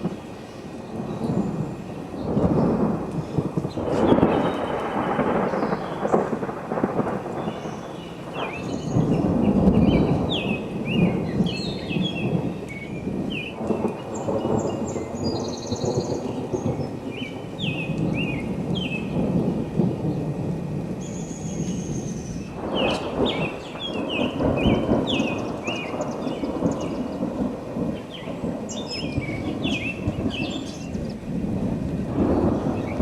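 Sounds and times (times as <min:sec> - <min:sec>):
thunder rumbling: 0:00.0 - 0:33.0
birds chirping and trilling: 0:00.4 - 0:06.3, 0:07.4 - 0:19.2, 0:21.0 - 0:31.3, 0:32.3 - 0:33.0.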